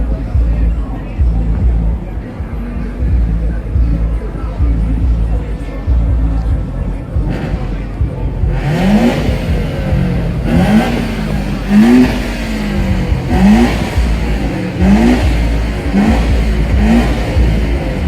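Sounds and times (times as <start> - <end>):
car engine revving in blips: 0.0 - 18.0.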